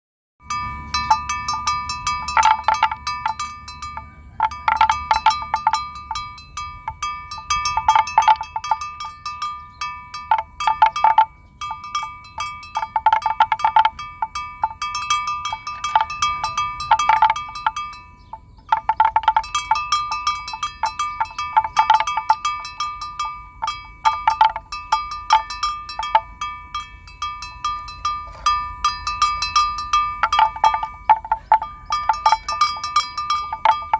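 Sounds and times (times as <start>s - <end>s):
livestock bells clanking: 0.4s - 33.9s.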